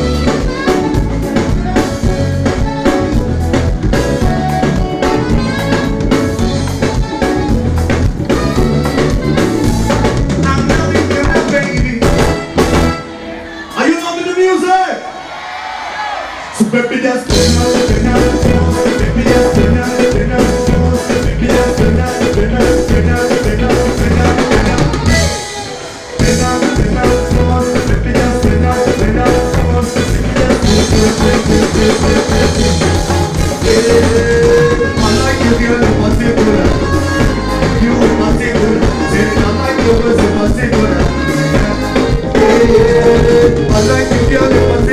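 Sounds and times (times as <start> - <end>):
drum kit beat: 0.0 - 13.3, 17.2 - 44.9
ska band music: 0.0 - 44.9.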